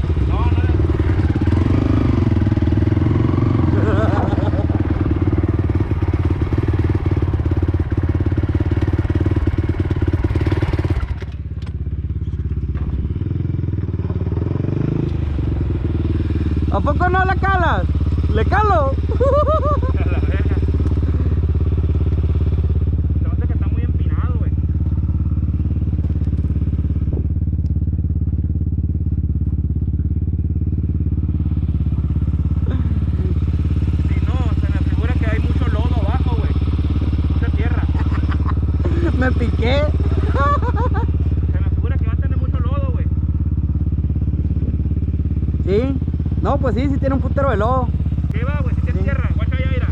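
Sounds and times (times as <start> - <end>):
quad bike engine revving: 0.0 - 49.9.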